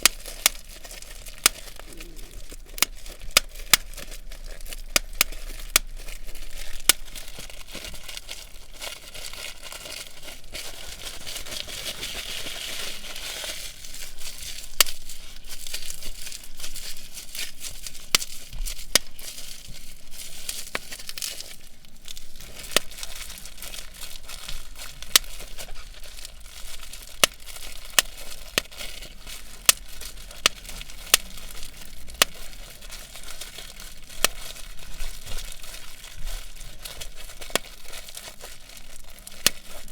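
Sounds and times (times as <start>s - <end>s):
bubble wrap popping: 0.0s - 39.9s
plastic crinkling: 0.0s - 39.9s.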